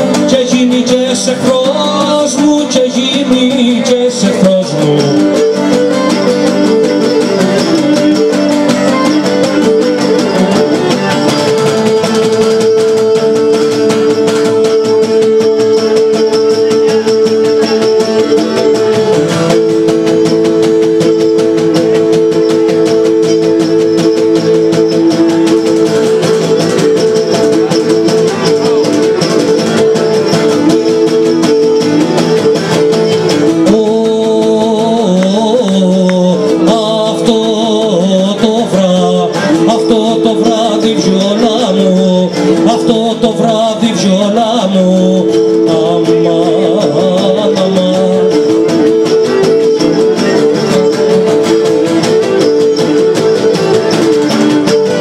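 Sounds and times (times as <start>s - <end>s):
bowed lyra melody: 0.0s - 55.0s
lutes strumming and picking: 0.0s - 55.0s.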